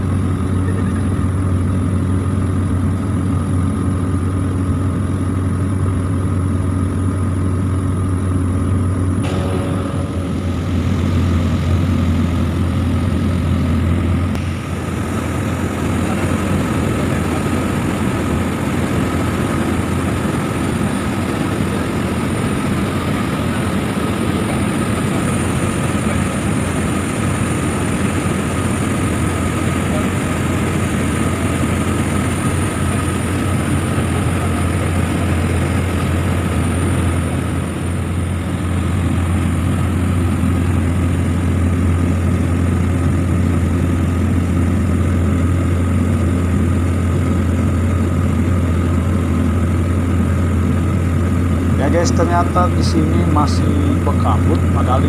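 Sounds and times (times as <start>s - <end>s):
propeller plane engine drone: 0.0s - 55.0s
high whine: 5.4s - 55.0s.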